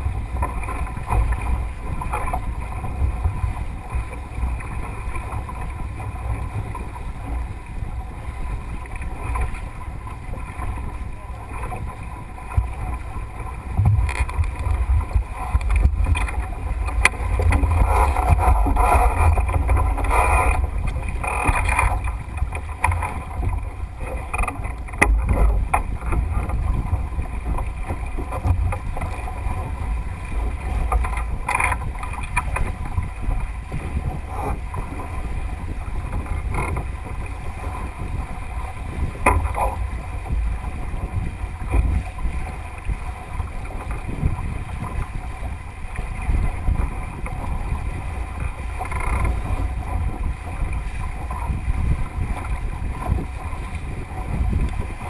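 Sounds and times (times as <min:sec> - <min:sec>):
water splashing along hull: 0:00.0 - 0:55.0
wind buffeting microphone: 0:00.0 - 0:55.0.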